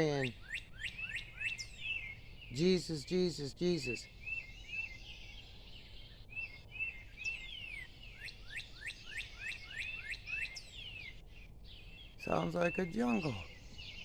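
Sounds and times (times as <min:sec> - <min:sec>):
bird singing whistled phrases: 0:00.0 - 0:03.1, 0:03.8 - 0:14.0.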